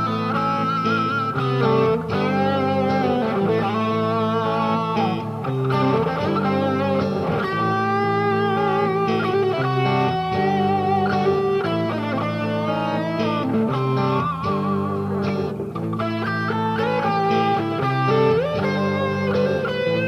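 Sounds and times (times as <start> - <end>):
electric guitar through an amp: 0.0 - 20.0.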